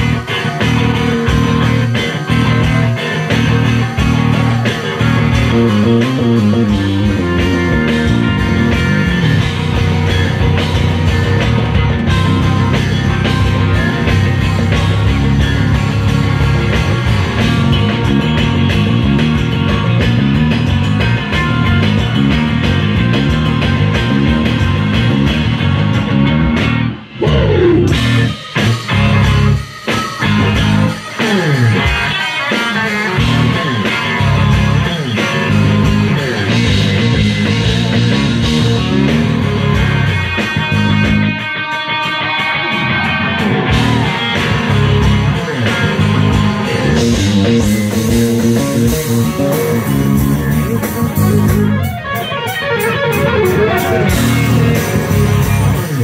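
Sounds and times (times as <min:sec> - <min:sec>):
band playing: 0:00.0 - 0:56.0
electric guitar solo: 0:00.0 - 0:56.0.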